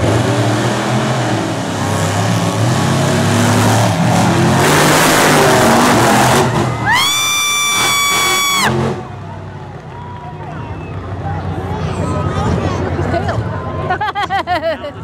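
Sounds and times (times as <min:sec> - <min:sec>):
engine and dirt surge: 0:00.0 - 0:13.7
truck engines revving: 0:00.0 - 0:15.0.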